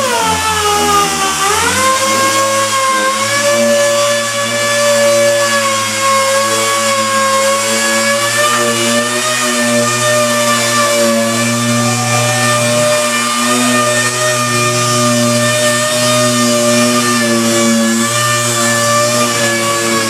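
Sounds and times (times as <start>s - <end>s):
power sander running: 0.0s - 20.0s.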